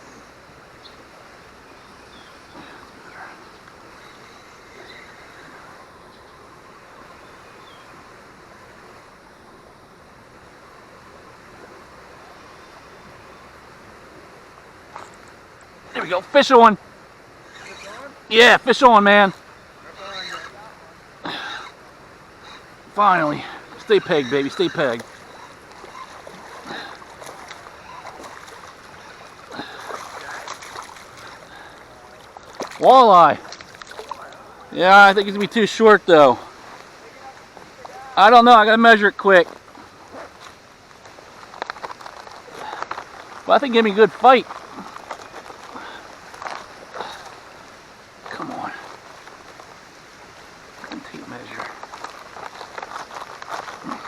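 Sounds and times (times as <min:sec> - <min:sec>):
fast-flowing river rushing: 0:00.0 - 0:54.0.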